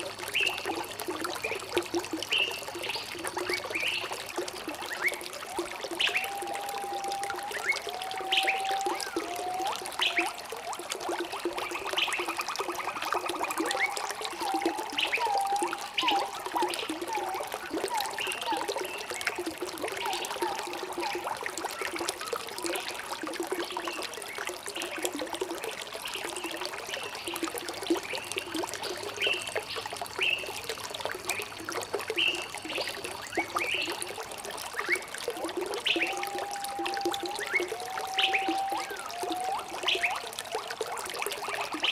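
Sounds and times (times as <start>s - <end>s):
water trickling in a stream: 0.0s - 41.9s.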